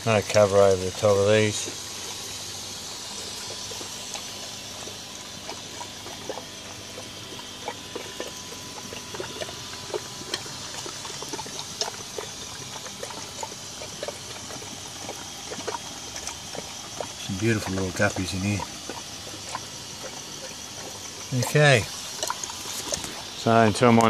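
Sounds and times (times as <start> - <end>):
water trickling into a pond: 0.0 - 24.0.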